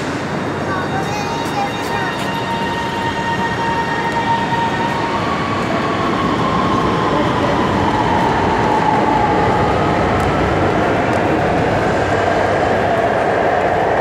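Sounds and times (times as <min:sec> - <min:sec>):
electric train rushing: 0:00.0 - 0:14.0.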